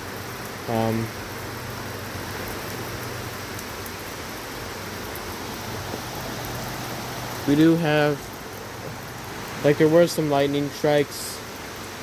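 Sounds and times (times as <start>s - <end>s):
steady rain hiss: 0.0s - 12.0s
faint raindrop ticks: 0.2s - 10.9s.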